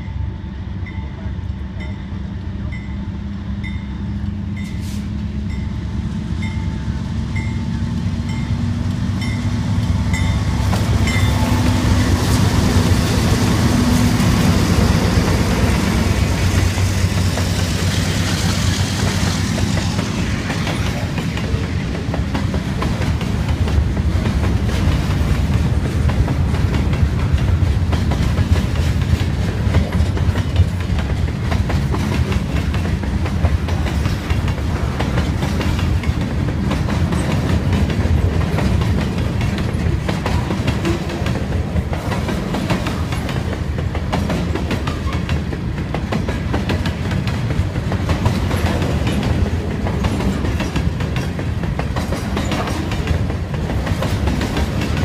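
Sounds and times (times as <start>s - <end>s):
locomotive engine drone: 0.0s - 55.0s
wheels clickety-clack over joints: 10.6s - 55.0s.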